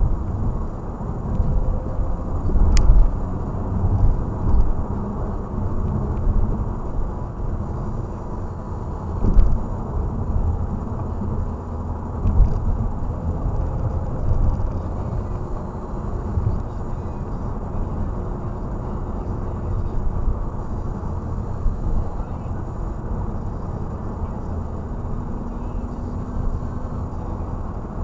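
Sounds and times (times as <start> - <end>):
low bumps: 0.0 - 25.5
car interior road rumble: 0.0 - 28.0.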